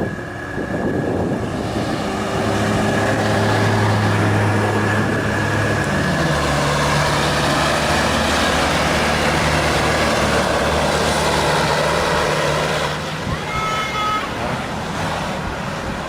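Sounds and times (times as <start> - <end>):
truck diesel engine under load: 0.0 - 16.0.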